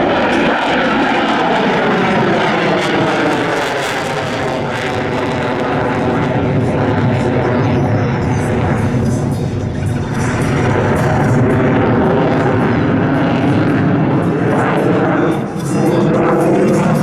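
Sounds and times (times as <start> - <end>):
fighter jet engine flying over: 0.0 - 17.0.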